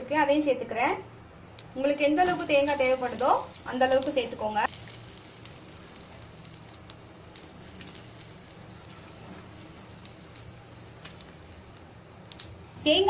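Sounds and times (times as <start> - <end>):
steady low hum: 1.0 - 13.0
faint crackles of roasting spices: 1.9 - 13.0.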